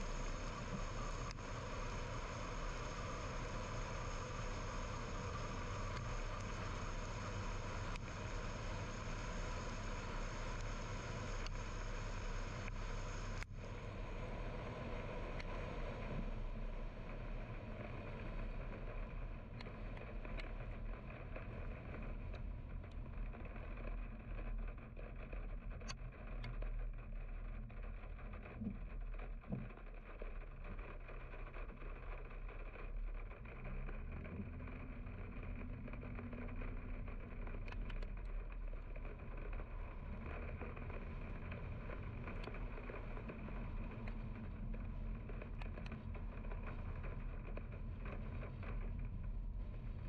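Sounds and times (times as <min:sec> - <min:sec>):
faint ticks: 0:00.0 - 0:13.9, 0:14.6 - 0:16.4, 0:17.0 - 0:50.0
car road and tyre noise: 0:00.0 - 0:50.0.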